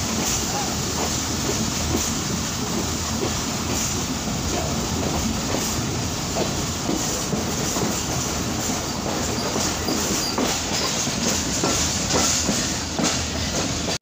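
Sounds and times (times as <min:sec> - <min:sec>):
train wheels rumbling on rails: 0:00.0 - 0:14.0
wheels clicking over rail joints: 0:00.1 - 0:14.0.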